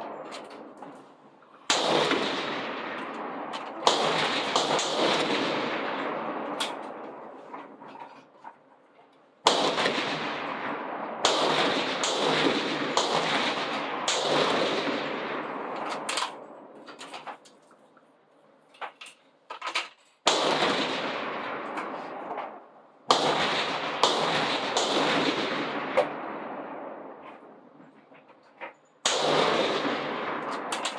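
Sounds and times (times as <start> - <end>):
rifle shots echoing: 0.0 - 8.0, 9.4 - 17.2, 20.2 - 27.8, 29.0 - 30.9.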